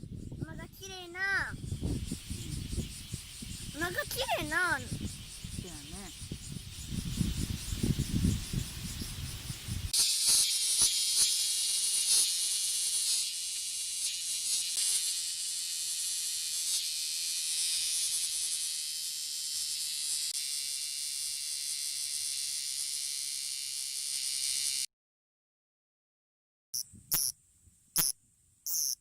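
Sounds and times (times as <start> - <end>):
cicada buzzing loudly: 0.0 - 24.9, 26.8 - 27.4, 28.0 - 29.0.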